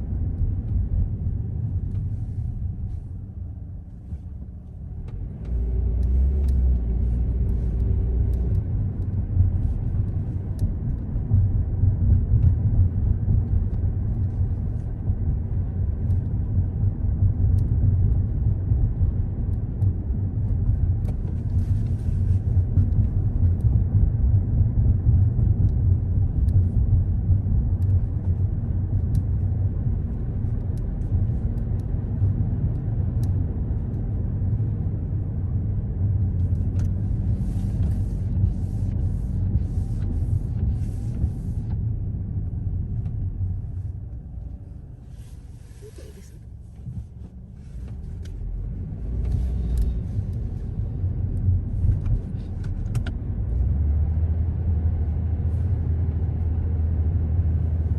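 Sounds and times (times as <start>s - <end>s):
car engine and road noise: 0.0s - 57.9s
low hum: 0.0s - 57.9s.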